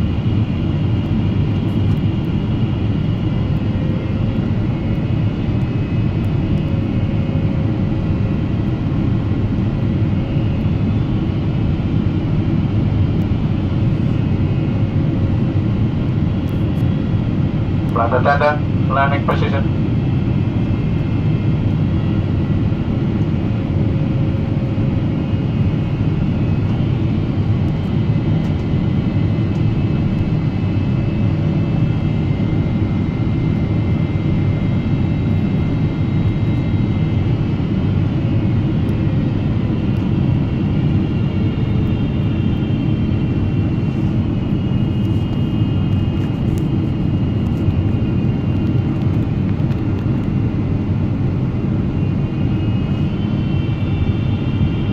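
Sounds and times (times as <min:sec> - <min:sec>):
airplane cabin engine roar: 0:00.0 - 0:54.9.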